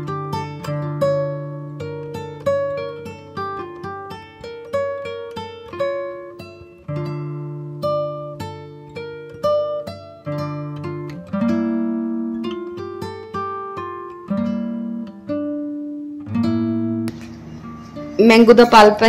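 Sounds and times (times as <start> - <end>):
acoustic guitar plucking: 0.0 - 19.0.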